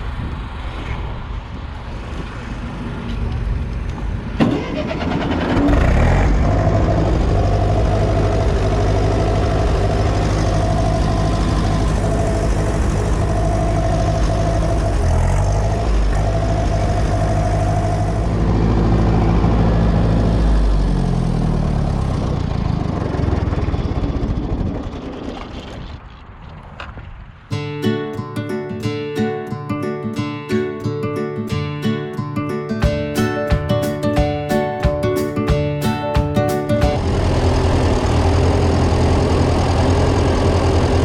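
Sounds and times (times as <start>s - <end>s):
tractor engine running: 0.0s - 26.0s, 32.8s - 41.0s.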